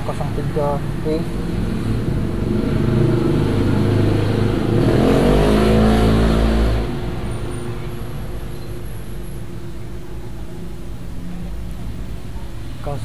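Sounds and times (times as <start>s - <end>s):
passing vehicle engine: 0.0s - 12.8s.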